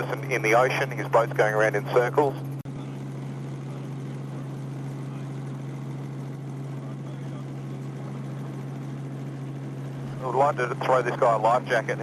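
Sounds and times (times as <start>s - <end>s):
helicopter drone from inside cabin: 0.0s - 12.0s.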